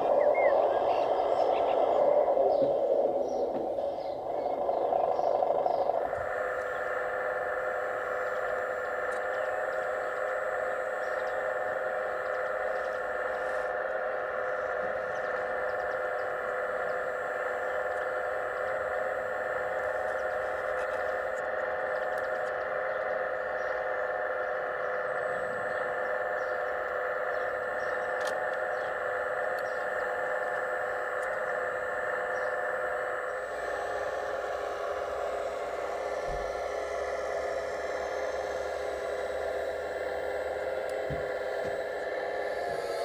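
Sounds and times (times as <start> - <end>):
hydraulic pump whine: 0.0 - 43.0.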